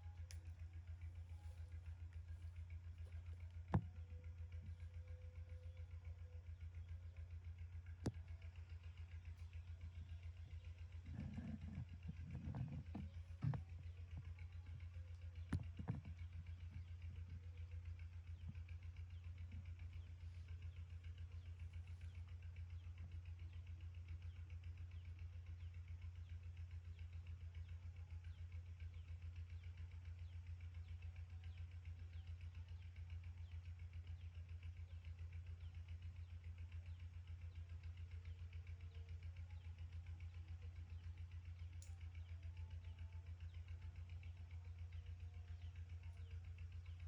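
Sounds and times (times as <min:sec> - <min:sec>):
fluttering motor hum: 0:00.0 - 0:47.0.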